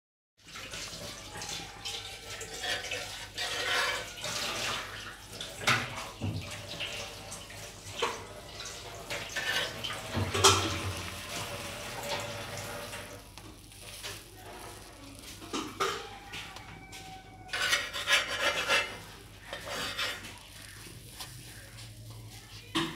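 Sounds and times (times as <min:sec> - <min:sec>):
food sizzling in a pan: 0:00.4 - 0:22.9
metal spatula scraping a pan: 0:02.2 - 0:22.9.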